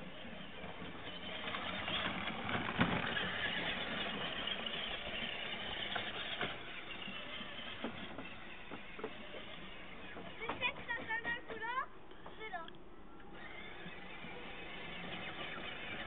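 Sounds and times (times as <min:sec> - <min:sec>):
ride-on toy car motors: 0:00.0 - 0:16.0.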